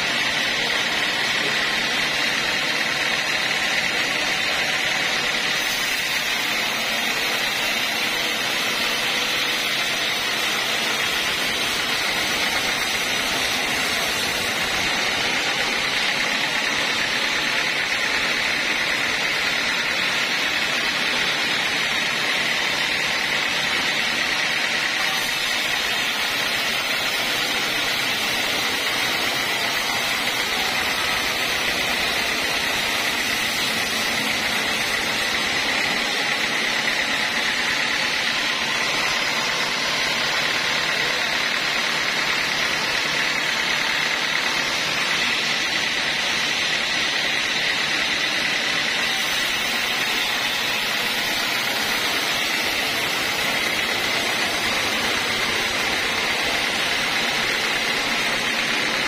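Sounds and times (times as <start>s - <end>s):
band sawmill whining: 0.0s - 59.0s.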